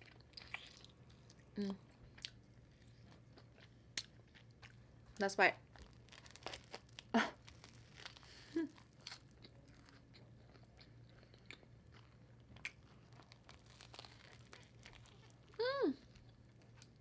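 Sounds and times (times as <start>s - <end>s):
person chewing food: 0.0s - 4.8s, 5.7s - 17.0s.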